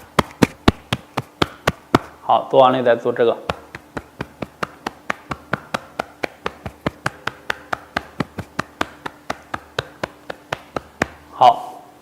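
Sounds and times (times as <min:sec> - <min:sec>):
fist tapping on chest: 0:00.0 - 0:02.2, 0:03.4 - 0:11.3.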